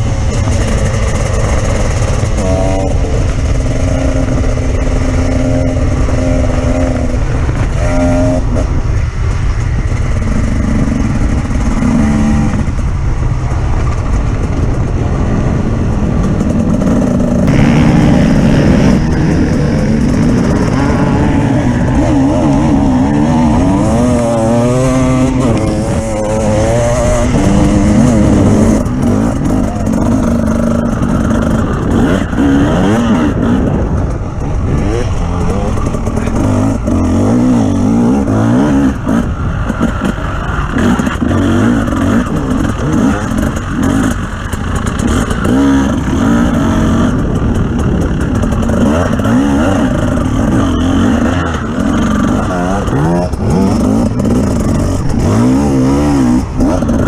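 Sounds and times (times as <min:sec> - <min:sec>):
off-road vehicle engine revving: 0:00.0 - 0:09.0, 0:09.8 - 0:13.0, 0:16.2 - 0:57.0.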